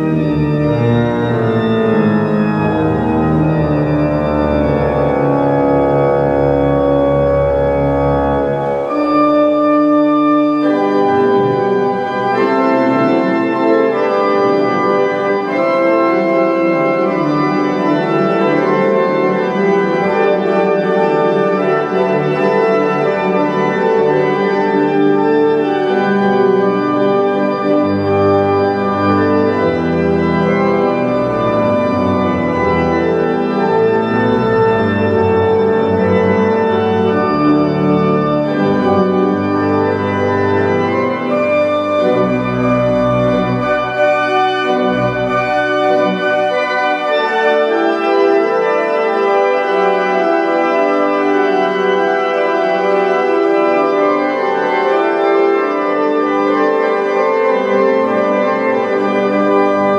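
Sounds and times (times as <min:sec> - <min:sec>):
pipe organ sustained chords: 0:00.0 - 0:59.9.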